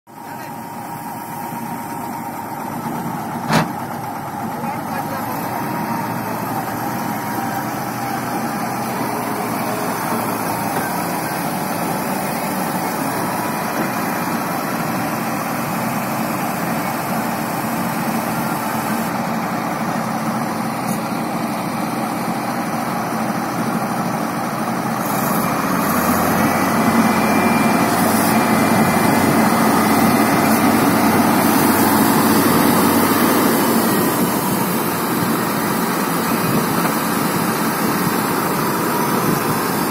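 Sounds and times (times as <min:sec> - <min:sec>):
combine harvester engine running: 0:00.1 - 0:39.9.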